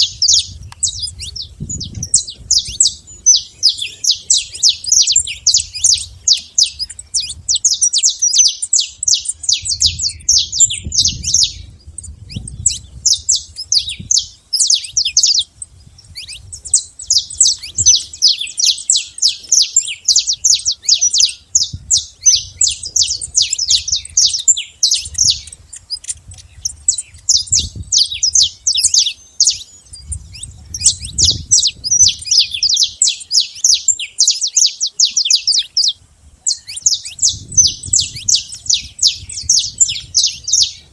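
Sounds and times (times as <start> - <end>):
finch singing high chirps: 0.0 - 40.9.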